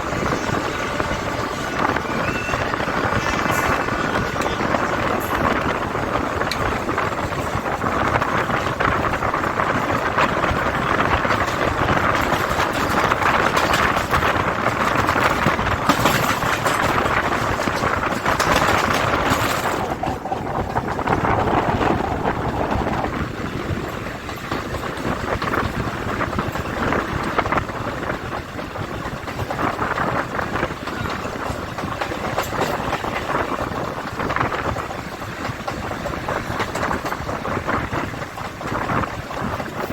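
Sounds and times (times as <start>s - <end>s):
electric train rushing rail noise: 0.0s - 39.9s.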